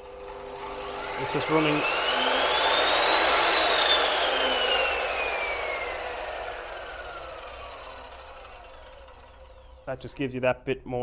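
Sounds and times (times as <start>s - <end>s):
saw motor whining and spinning down: 0.0s - 9.9s.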